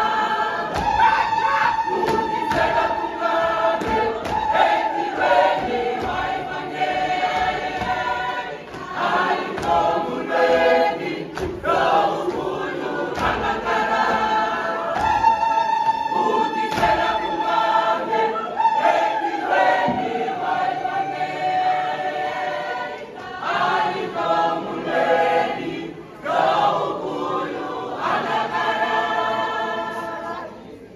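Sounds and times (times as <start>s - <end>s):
choir singing in harmony: 0.0s - 30.9s.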